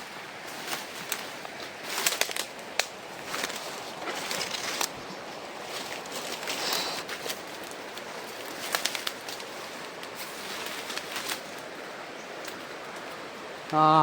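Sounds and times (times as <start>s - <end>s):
crackles in undergrowth: 0.0s - 14.0s
jungle background hiss: 0.0s - 14.0s.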